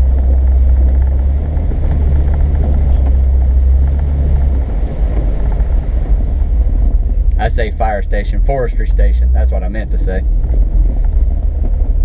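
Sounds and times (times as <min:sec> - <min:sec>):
off-road vehicle engine rumble: 0:00.0 - 0:12.0.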